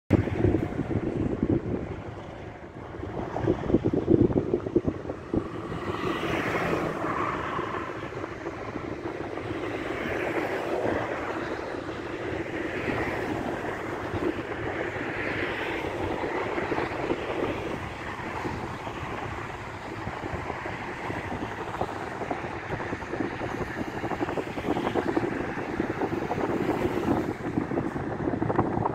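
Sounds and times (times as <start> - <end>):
wind buffeting microphone: 0.1 - 28.9.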